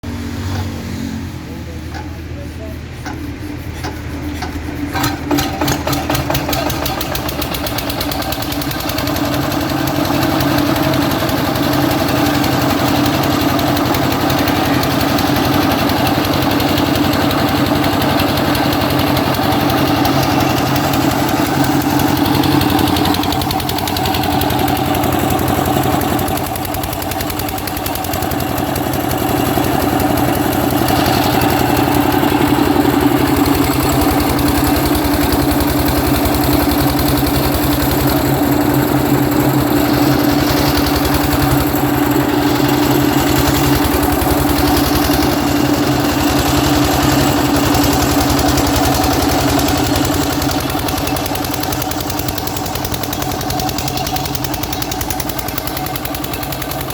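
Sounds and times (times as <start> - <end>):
generator engine running: 0.0 - 56.9.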